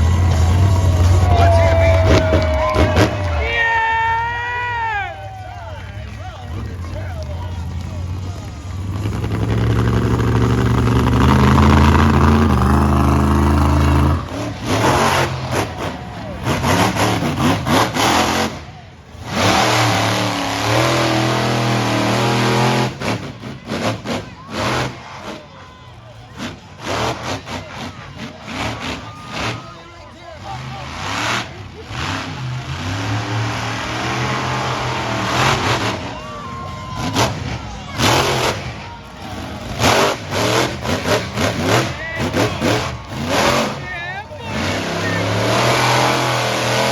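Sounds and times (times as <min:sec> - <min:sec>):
monster truck engine running: 0:00.0 - 0:46.9.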